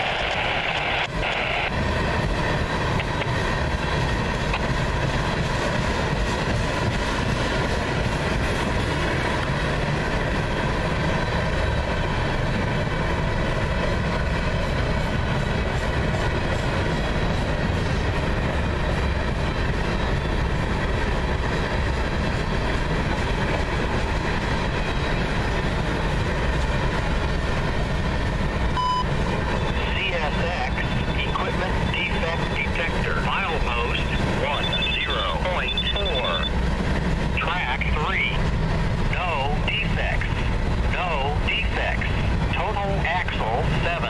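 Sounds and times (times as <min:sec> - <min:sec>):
freight train wheels on track: 0:00.0 - 0:44.0.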